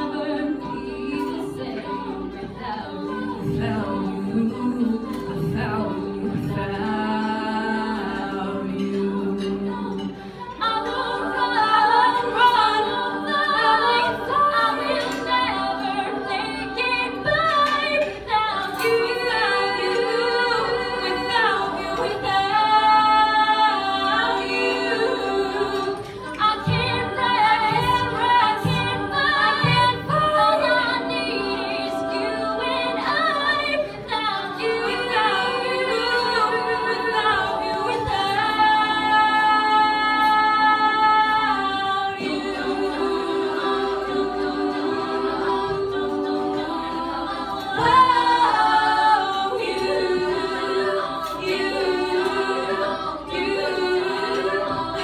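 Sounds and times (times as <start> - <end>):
female a cappella group singing: 0.0 - 55.0.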